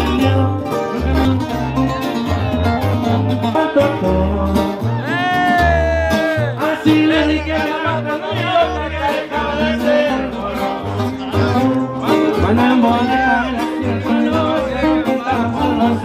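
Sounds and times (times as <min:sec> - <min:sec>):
plucked strings: 0:00.0 - 0:16.0
tuba bass line: 0:00.0 - 0:16.0.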